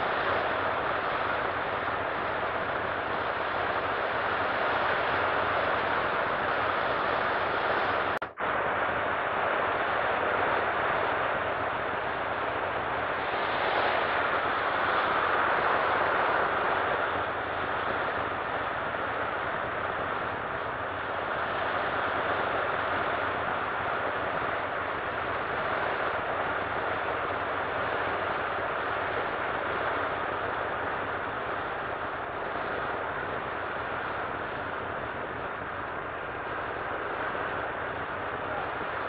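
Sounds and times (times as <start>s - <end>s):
aircraft radial engines: 0.0s - 39.0s
slipstream wind rush: 0.0s - 39.0s.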